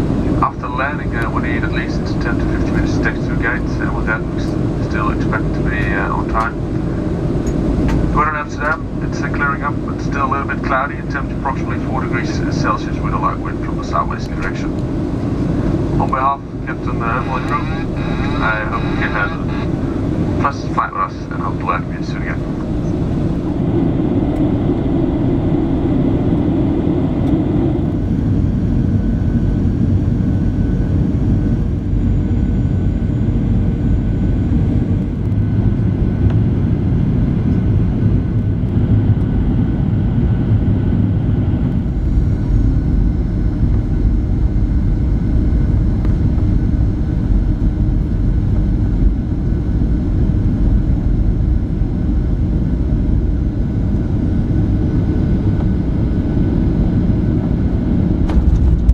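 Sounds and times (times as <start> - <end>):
airplane cabin airflow and engine noise: 0.0 - 58.9
faint steady whines: 0.0 - 58.9.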